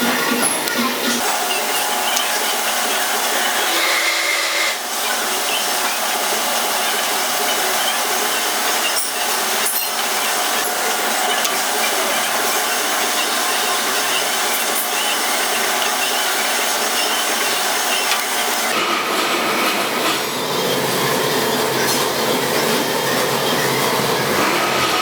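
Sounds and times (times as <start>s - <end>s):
power tool running under load: 0.0s - 25.0s.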